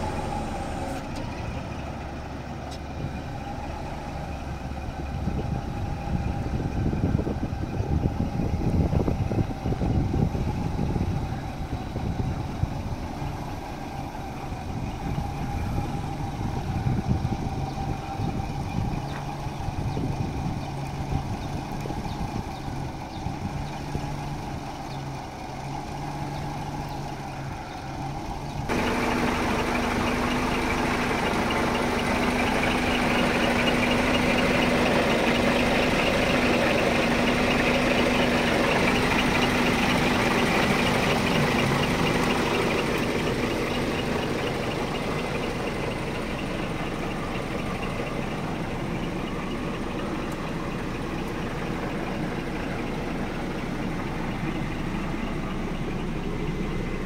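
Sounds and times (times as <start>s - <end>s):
truck diesel engine idling: 0.0s - 57.0s.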